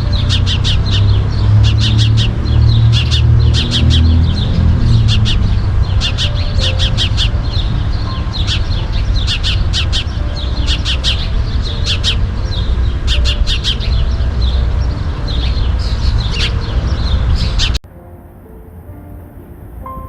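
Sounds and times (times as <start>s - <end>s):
birds chirping: 0.0s - 17.8s
low rumble: 0.0s - 17.8s.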